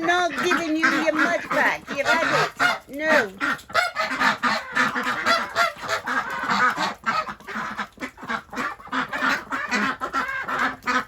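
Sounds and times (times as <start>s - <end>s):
ducks quacking: 0.0s - 11.0s
geese honking: 0.0s - 11.0s.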